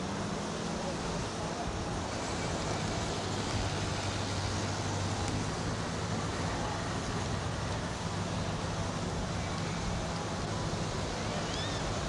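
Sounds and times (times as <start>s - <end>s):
even road hiss: 0.0s - 12.0s.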